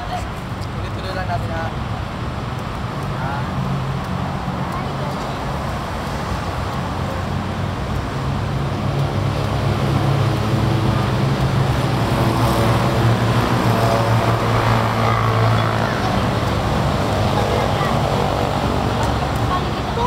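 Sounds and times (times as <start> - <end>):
road traffic passing: 0.0 - 20.0
bus engine passing: 2.0 - 20.0.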